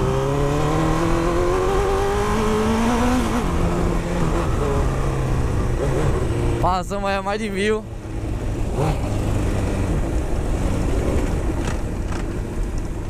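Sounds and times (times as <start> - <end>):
motorcycle engine revving: 0.0 - 6.9, 7.8 - 12.6.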